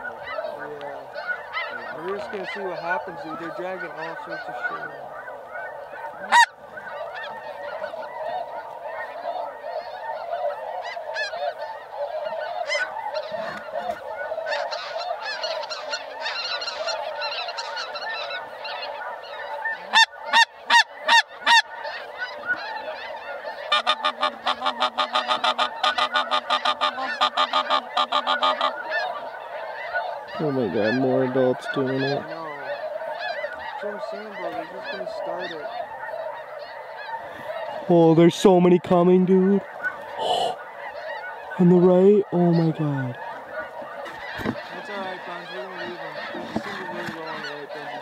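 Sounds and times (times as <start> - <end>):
flock of geese honking: 0.0 - 48.0.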